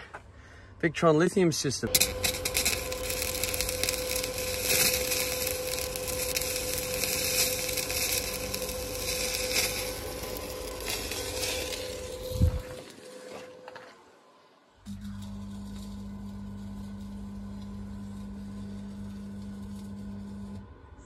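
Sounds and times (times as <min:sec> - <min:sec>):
welding arc crackling: 0:01.9 - 0:13.4, 0:14.9 - 0:20.7
welder hum: 0:01.9 - 0:14.0, 0:14.7 - 0:21.0.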